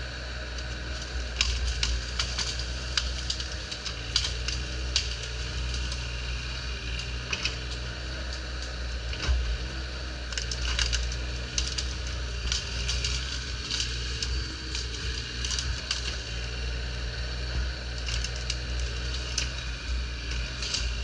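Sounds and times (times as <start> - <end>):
diesel engine running: 0.0 - 21.0
wood cracking and splintering: 0.5 - 21.0.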